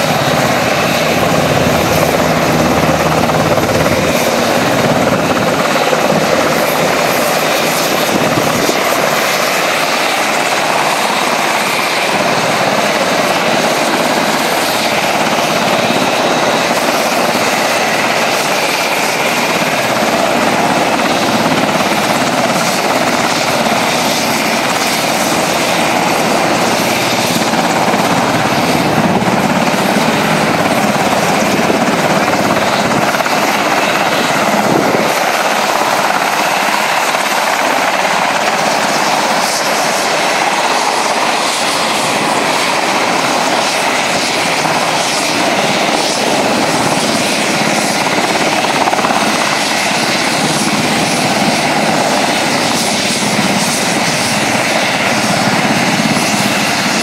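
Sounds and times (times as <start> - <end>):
helicopter rotor and engine: 0.0 - 57.0
high-pitched turbine whine: 0.0 - 57.0.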